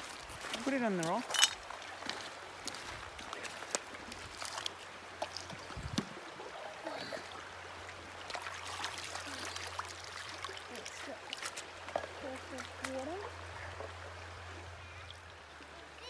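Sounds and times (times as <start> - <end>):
creek water running over stones: 0.0 - 16.0.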